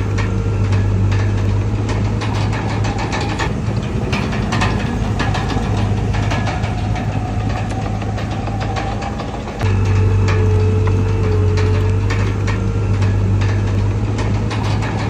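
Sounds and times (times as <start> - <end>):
bulldozer diesel engine running: 0.0 - 15.0
knocks and clicks: 0.0 - 15.0.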